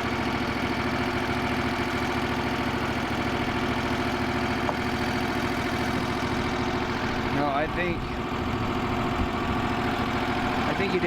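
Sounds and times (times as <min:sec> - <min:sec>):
sawmill engine idling: 0:00.0 - 0:11.0.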